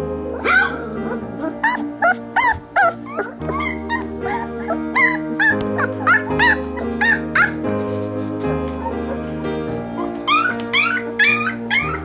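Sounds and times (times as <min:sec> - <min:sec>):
background music: 0:00.0 - 0:12.0
puppies yipping and whimpering: 0:00.3 - 0:07.9, 0:10.0 - 0:12.0.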